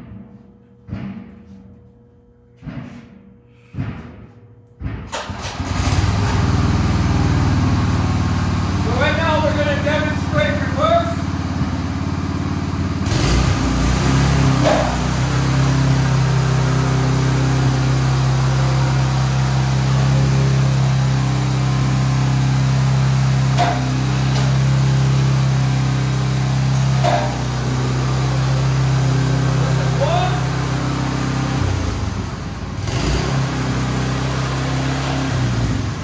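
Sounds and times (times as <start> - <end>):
dumper engine running: 5.1 - 36.0.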